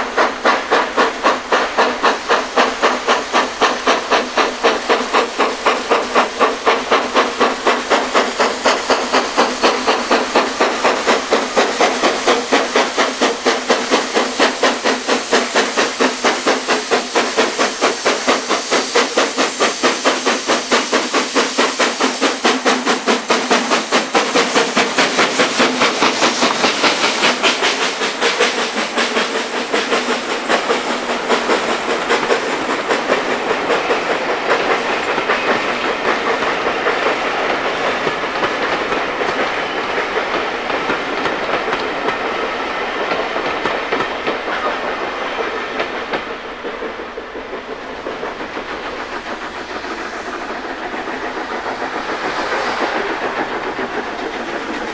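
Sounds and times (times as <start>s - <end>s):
loud steam hiss: 0.0s - 54.9s
steam locomotive exhaust beats: 0.0s - 54.9s.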